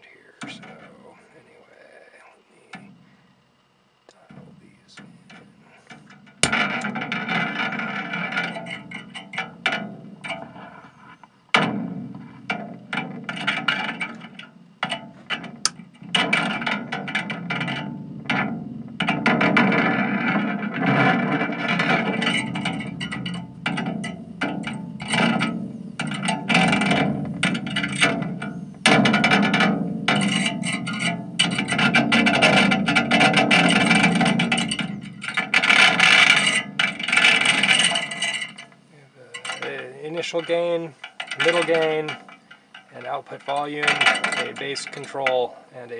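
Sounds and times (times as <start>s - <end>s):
distorted metal clangs and rattles: 0.4s - 1.1s, 4.2s - 45.6s.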